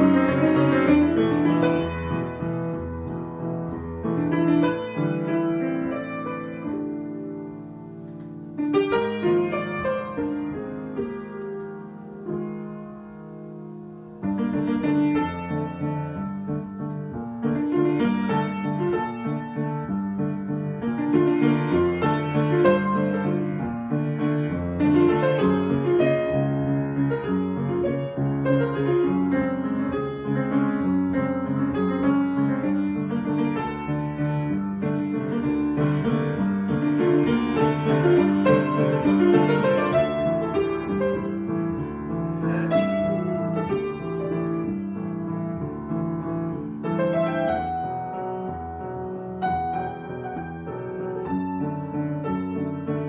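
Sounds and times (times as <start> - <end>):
solo piano improvisation: 0.0 - 53.0.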